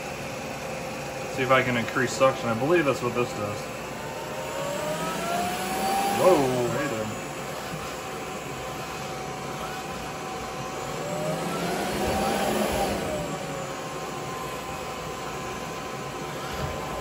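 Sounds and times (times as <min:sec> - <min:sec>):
robot vacuum suction whine: 0:02.8 - 0:17.0.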